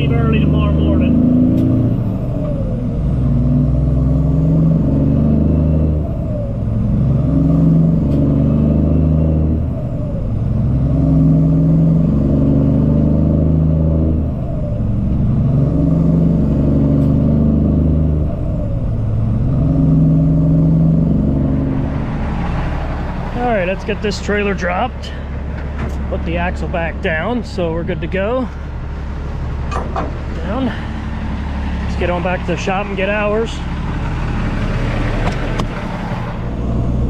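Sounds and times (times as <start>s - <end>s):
diesel truck engine drone: 0.0s - 37.0s.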